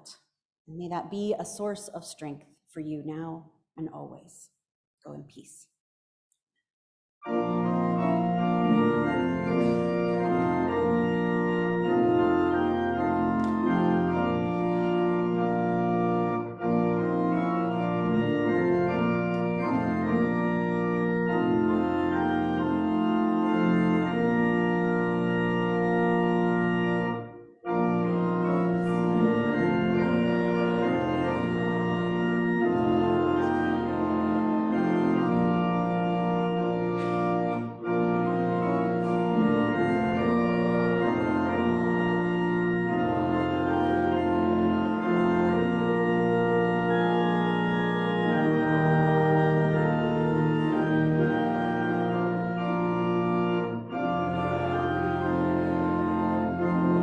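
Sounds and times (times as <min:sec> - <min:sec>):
church organ playing a hymn: 0:07.2 - 0:57.0.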